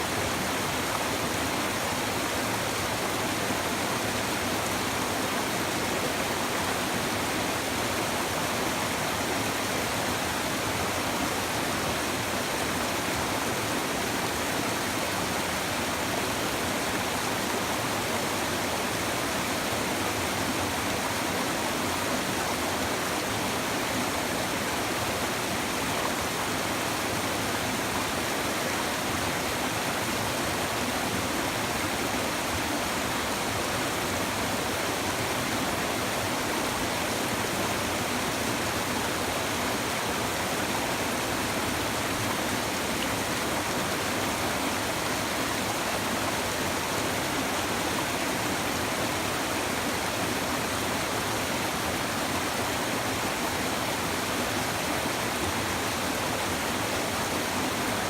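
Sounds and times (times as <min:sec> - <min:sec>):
river water rushing over stones: 0:00.0 - 0:58.0.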